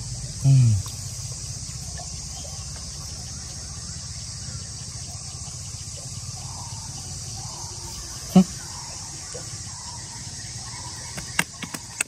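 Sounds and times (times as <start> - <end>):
insects chirring: 0.0 - 12.0
low engine-like hum: 0.0 - 12.0.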